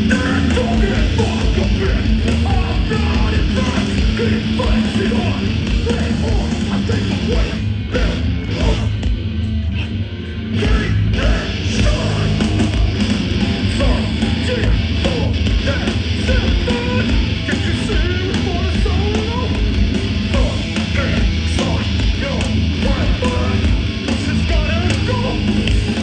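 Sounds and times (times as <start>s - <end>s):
bass guitar: 0.0s - 26.0s
heavy distorted electric guitars: 0.0s - 26.0s.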